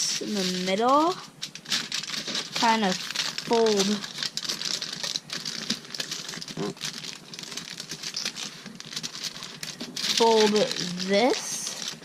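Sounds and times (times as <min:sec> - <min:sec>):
foil crinkling: 0:00.0 - 0:12.0.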